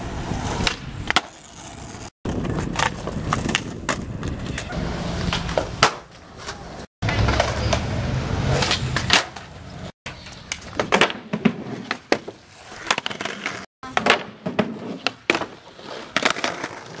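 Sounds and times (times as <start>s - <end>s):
skateboard wheels rolling: 0.0s - 17.0s.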